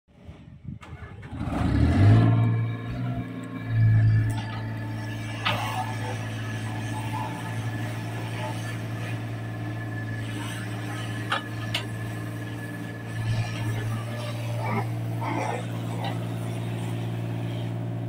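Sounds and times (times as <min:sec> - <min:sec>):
excavator diesel engine running: 0:00.2 - 0:18.0
hydraulic high whine: 0:00.2 - 0:18.0.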